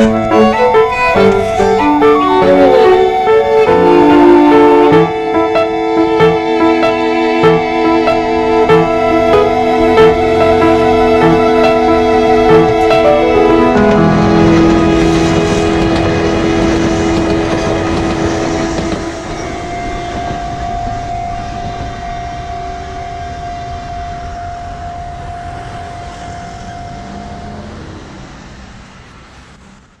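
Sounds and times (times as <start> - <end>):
electric train running past: 0.0 - 30.0.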